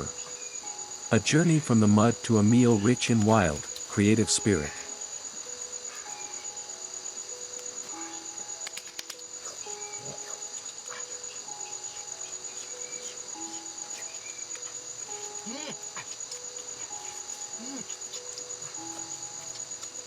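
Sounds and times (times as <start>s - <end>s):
crickets trilling: 0.0s - 20.0s
soft background music: 0.0s - 20.0s.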